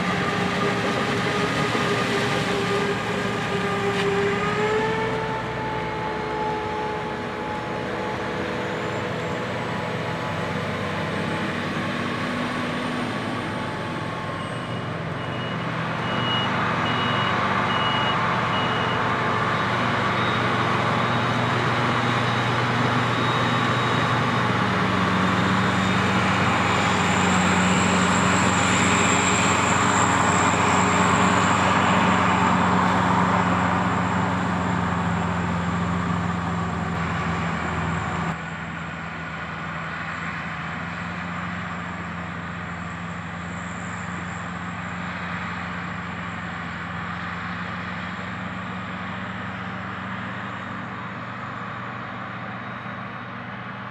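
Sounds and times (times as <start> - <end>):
diesel farm vehicles running: 0.0 - 53.9.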